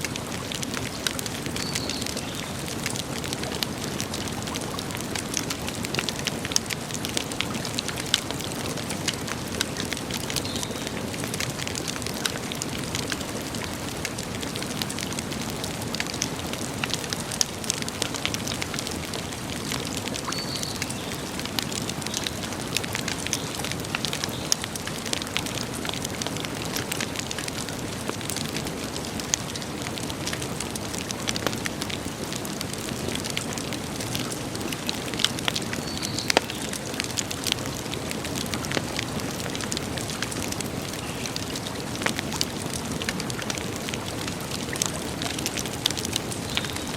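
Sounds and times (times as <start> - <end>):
campfire crackling and snapping: 0.0 - 46.9.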